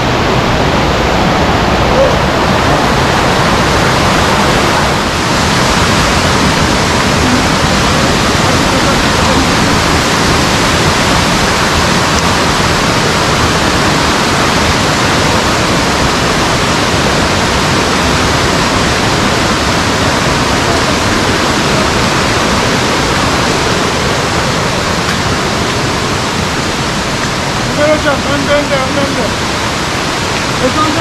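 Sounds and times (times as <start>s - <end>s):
waterfall rushing water: 0.0s - 31.0s.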